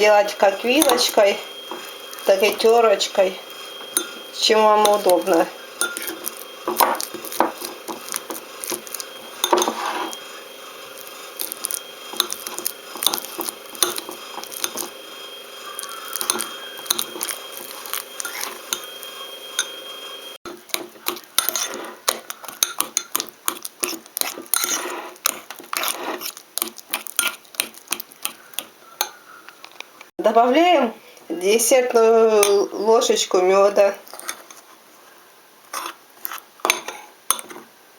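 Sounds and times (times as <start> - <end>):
fork tines scraping a dish: 0.0 - 29.8, 34.0 - 34.8, 35.7 - 37.6
fork mashing banana: 0.6 - 29.8, 35.7 - 37.6.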